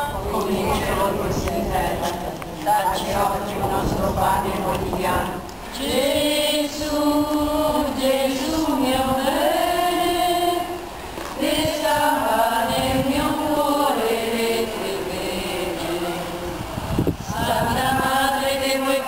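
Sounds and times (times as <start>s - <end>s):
crowd singing a hymn: 0.0s - 19.0s.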